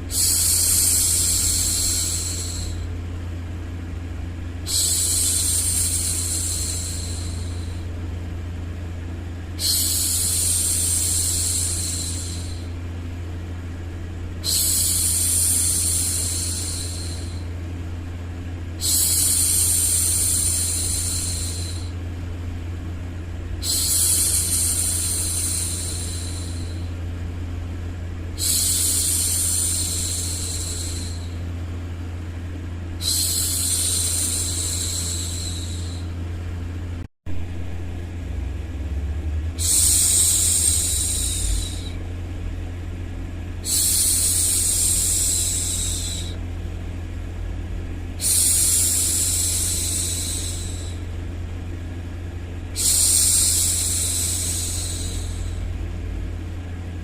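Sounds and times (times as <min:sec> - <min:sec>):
low white-noise hum: 0:00.0 - 0:57.0.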